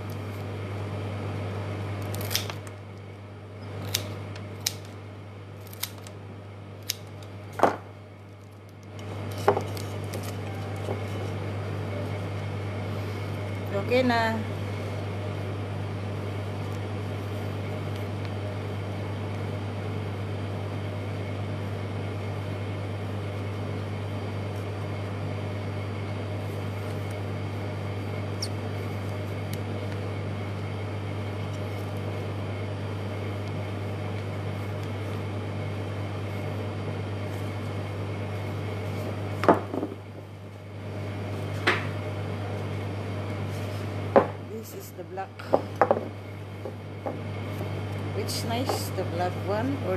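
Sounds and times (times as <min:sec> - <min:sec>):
low machine hum: 0:00.0 - 0:49.9.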